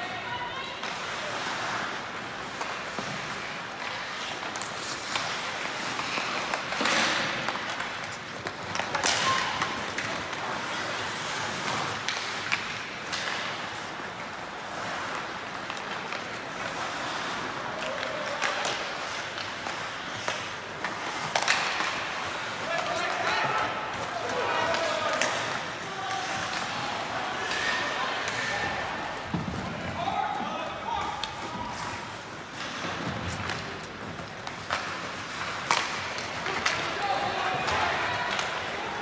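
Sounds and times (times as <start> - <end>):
hockey sticks and puck clacking: 0.0 - 39.0
skates scraping ice: 0.0 - 39.0.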